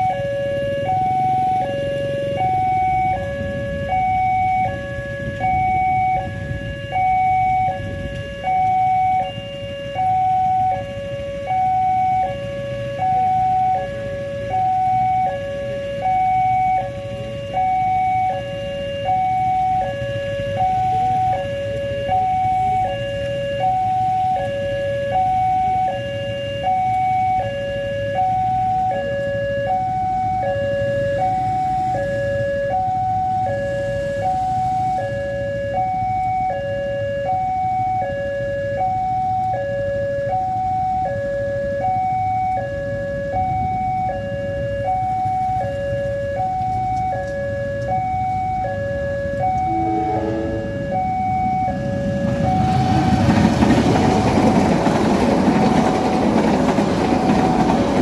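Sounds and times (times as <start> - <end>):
level crossing alarm two tones: 0.0 - 42.6, 43.2 - 53.6
idling road traffic rumble: 0.0 - 58.0.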